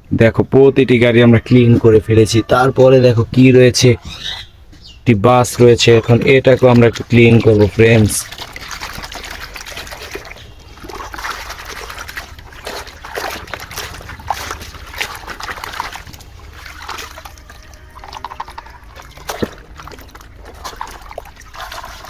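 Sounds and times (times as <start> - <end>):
water sloshing and splashing: 1.0 - 22.0.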